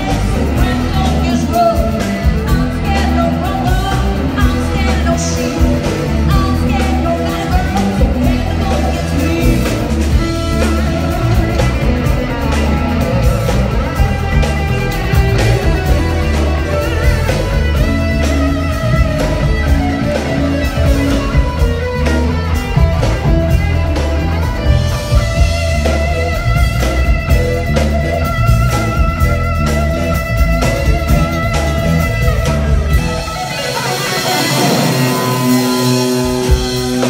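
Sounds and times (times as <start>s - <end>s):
electric guitar: 0.0s - 37.0s
heavy bass line: 0.0s - 37.0s
live band playing: 0.0s - 37.0s.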